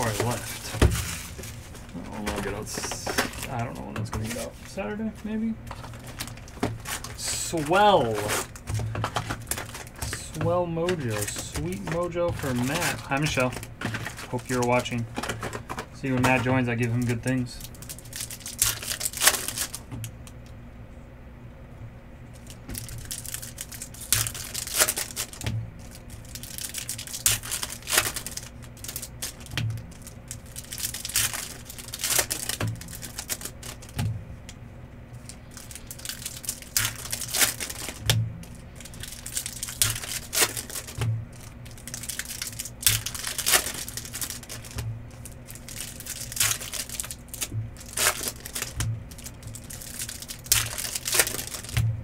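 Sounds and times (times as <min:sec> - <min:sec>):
cardboard and cards snapping: 0:00.0 - 0:04.5, 0:05.7 - 0:17.4, 0:22.4 - 0:34.6, 0:35.2 - 0:38.2, 0:38.8 - 0:44.9, 0:45.6 - 0:52.0
foil wrappers crinkling and tearing: 0:00.0 - 0:20.4, 0:22.3 - 0:34.1, 0:35.1 - 0:52.0.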